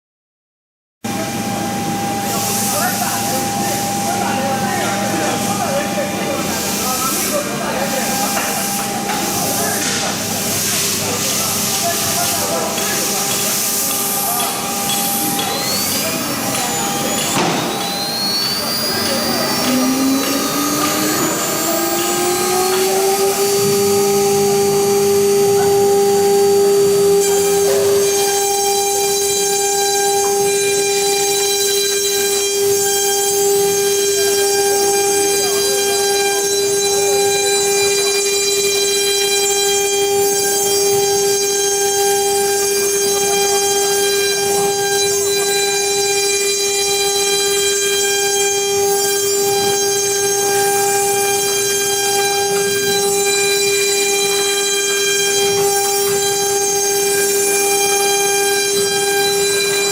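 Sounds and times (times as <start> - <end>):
machine cutting foam whine: 1.1 - 59.9.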